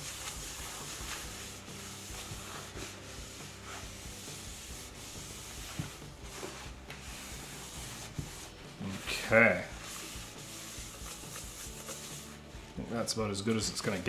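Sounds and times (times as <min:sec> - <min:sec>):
rag rubbing wooden bowl: 0:00.0 - 0:12.7.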